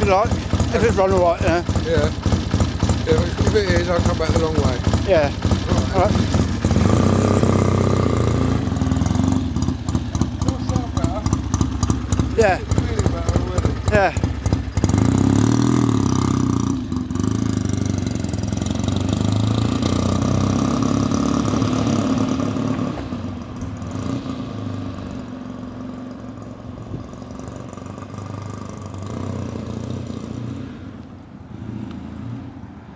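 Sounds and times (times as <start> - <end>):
motorcycle engine pulling away: 0.0 - 30.9.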